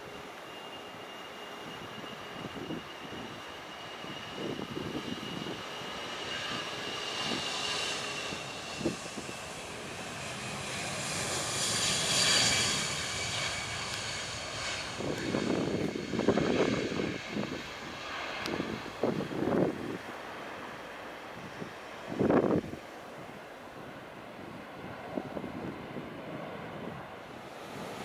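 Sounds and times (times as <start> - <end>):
jet engines whining on takeoff: 0.0 - 28.0
wind gusts on microphone: 1.6 - 28.0.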